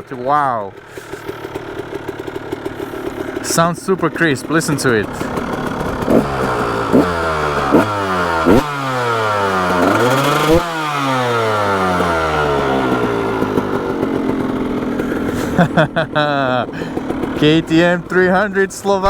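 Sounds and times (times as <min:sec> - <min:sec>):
dirt bike engine revving: 0:00.0 - 0:19.0
sharp engine cracks: 0:00.8 - 0:19.0.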